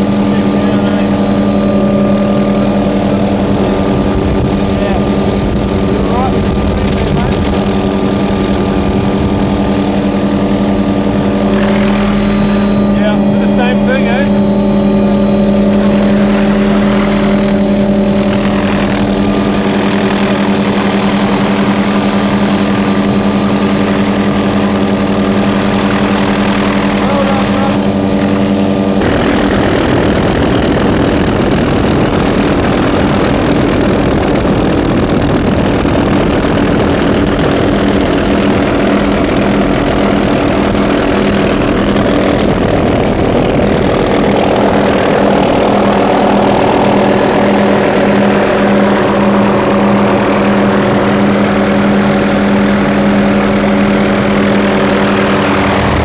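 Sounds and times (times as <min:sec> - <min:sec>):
engine drone: 0:00.0 - 0:56.0
rough rumble: 0:00.0 - 0:56.0.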